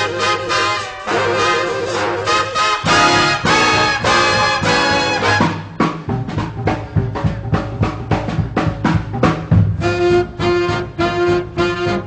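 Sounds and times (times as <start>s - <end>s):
brass chords: 0.0s - 12.0s.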